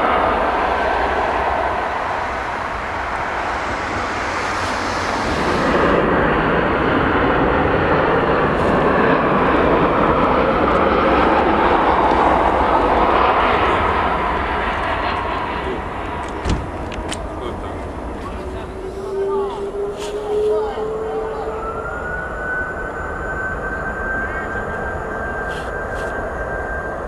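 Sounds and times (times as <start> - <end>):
airliner engines at takeoff thrust: 0.0 - 27.0
landing jet engines: 0.0 - 27.0.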